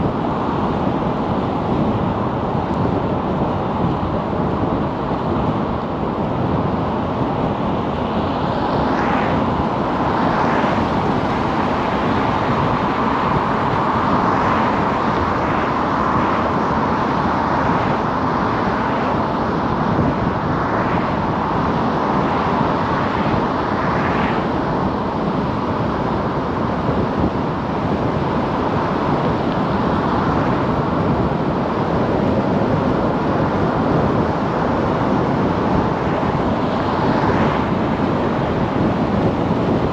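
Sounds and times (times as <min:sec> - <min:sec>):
car driving road noise: 0:00.0 - 0:39.9
passing traffic: 0:00.0 - 0:39.9.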